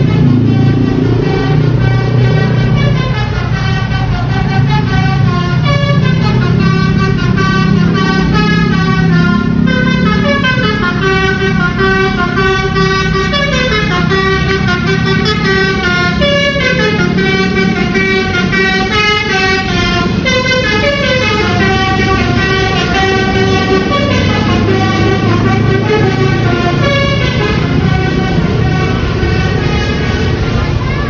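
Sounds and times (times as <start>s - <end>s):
bus horn playing a melody: 0.0s - 31.0s.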